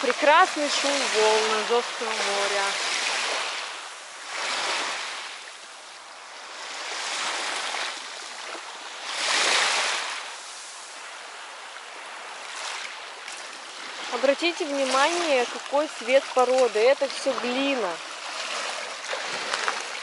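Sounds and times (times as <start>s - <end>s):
small waves breaking on a beach: 0.0s - 20.0s.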